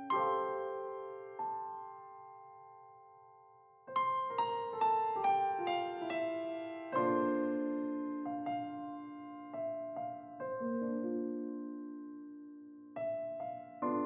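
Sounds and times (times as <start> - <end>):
piano music: 0.0 - 3.3, 3.9 - 14.0.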